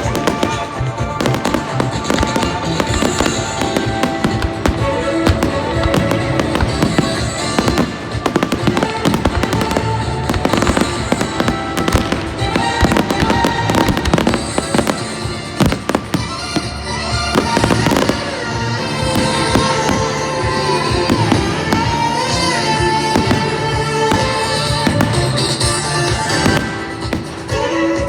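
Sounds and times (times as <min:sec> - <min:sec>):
fireworks banging: 0:00.0 - 0:27.8
loud music: 0:00.0 - 0:28.0.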